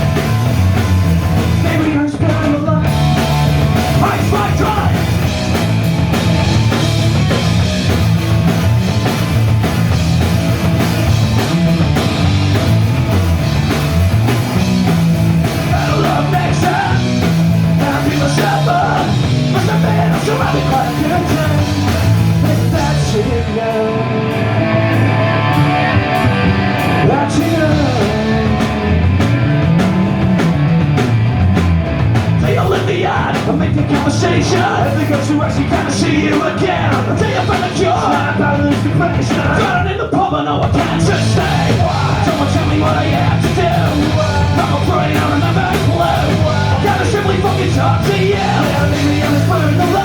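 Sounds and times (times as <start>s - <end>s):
bass guitar: 0.0s - 50.0s
drums: 0.0s - 50.0s
electric guitar: 0.0s - 50.0s.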